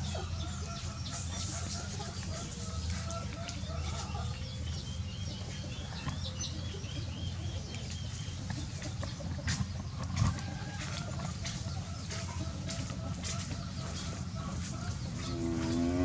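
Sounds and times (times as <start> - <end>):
low steady rumble: 0.0 - 16.0
low wavering bird calls: 0.0 - 16.0.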